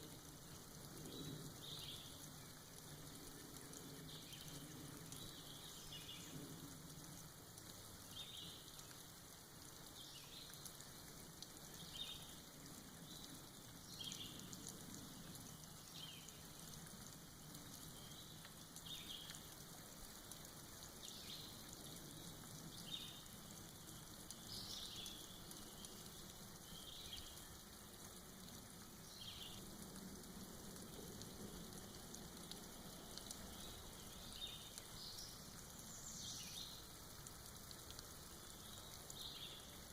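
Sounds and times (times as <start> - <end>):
soft rain dripping: 0.0 - 39.9.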